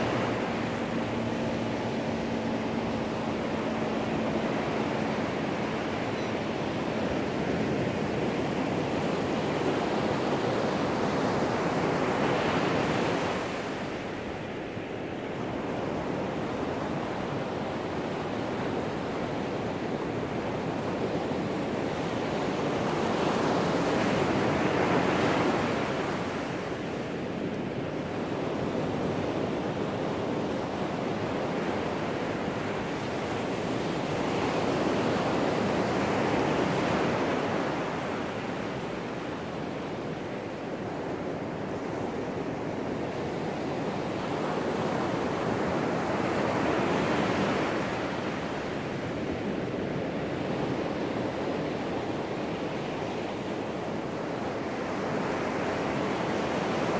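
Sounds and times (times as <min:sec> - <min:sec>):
ocean surf breaking on sand: 0:00.0 - 0:56.9.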